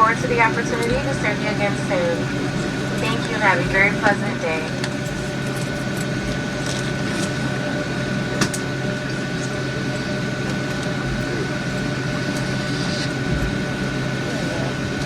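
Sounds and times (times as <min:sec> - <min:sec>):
aircraft cabin air hum: 0:00.0 - 0:15.0
thin constant whine: 0:00.0 - 0:15.0.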